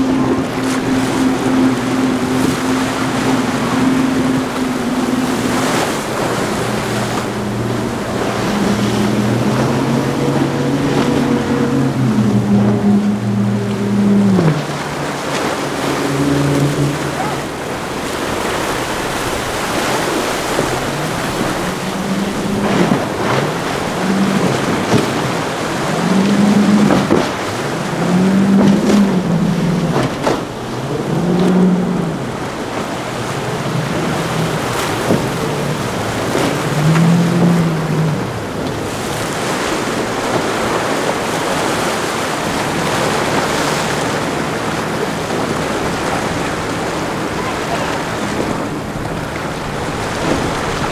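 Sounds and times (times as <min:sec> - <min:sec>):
outboard boat engines: 0:00.0 - 0:50.9
surf: 0:00.0 - 0:50.9
wind: 0:00.0 - 0:50.9.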